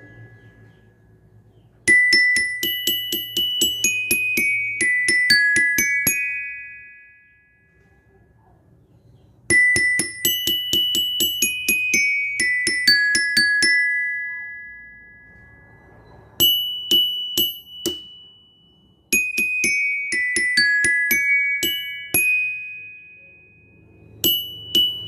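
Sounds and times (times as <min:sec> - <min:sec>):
bell lyre melody: 0:00.0 - 0:08.0, 0:09.5 - 0:25.0.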